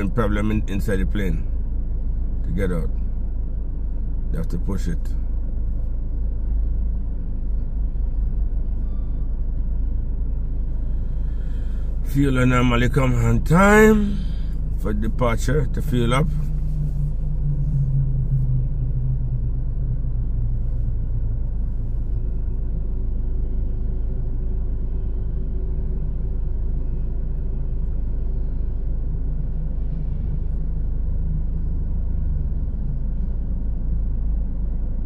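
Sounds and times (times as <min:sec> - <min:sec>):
faint hum: 0:00.0 - 0:35.0
idling engine rumble: 0:00.0 - 0:35.0.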